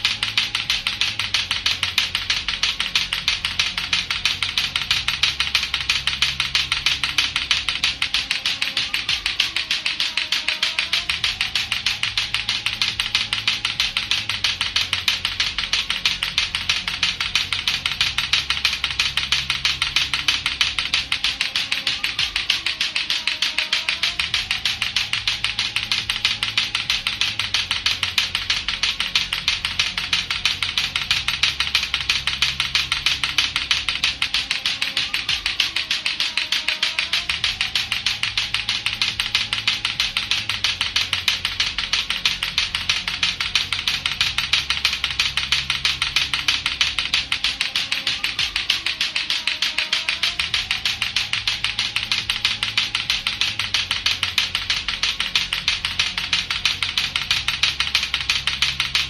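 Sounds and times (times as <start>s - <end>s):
plastic clacker balls knocking: 0.0s - 59.0s.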